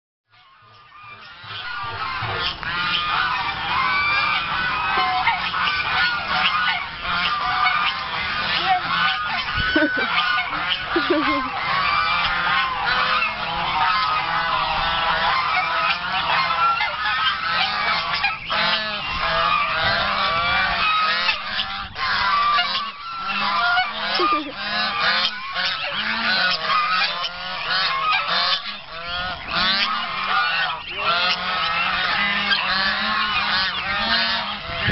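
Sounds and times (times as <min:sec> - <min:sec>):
geese honking: 0:00.3 - 0:34.9.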